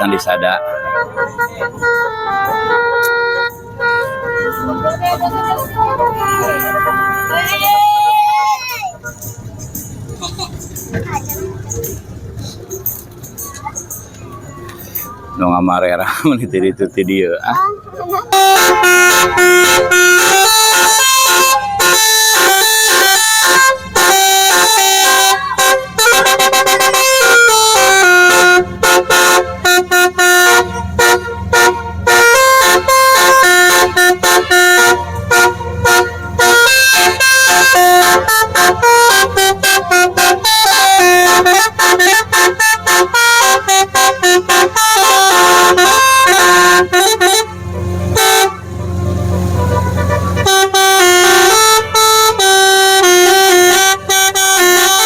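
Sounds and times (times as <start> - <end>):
multi-tone horn melody: 0.0 - 7.9, 18.1 - 55.0.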